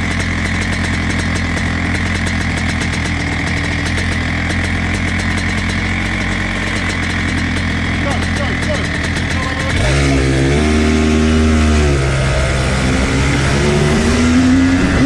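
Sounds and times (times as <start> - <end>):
kart engine idling: 0.0 - 15.0.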